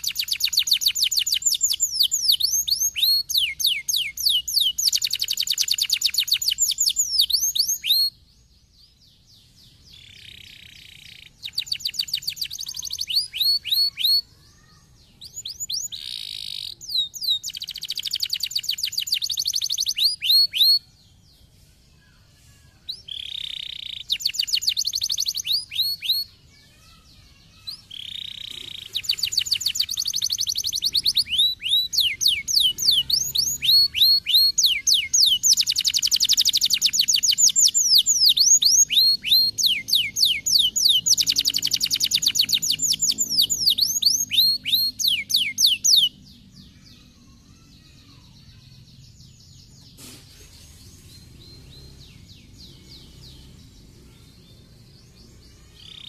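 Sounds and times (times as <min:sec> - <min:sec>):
canary singing: 0:00.0 - 0:21.6, 0:22.4 - 0:56.0.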